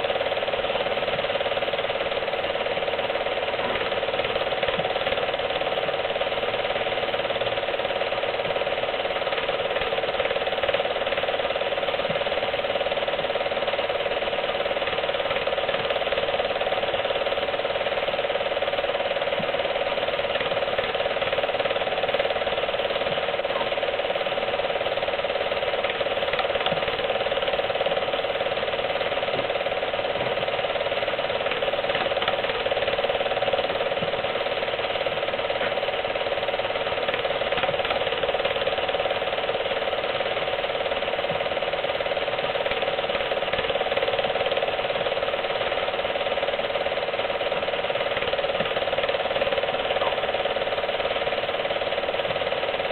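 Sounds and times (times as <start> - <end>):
film projector clattering: 0.0 - 52.9.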